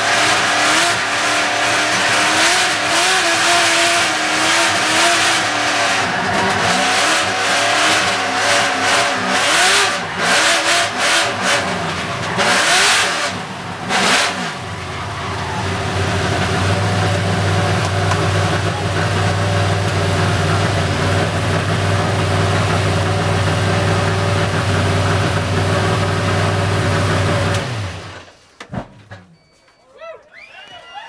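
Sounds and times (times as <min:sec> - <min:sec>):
car engine idling: 0:00.0 - 0:28.2
car engine revving: 0:00.0 - 0:28.2.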